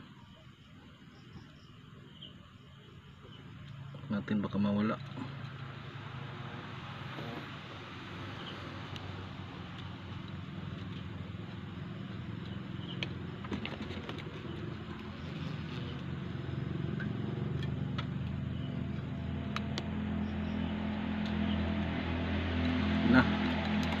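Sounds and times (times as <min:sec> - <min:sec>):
low engine drone: 0:02.8 - 0:24.0.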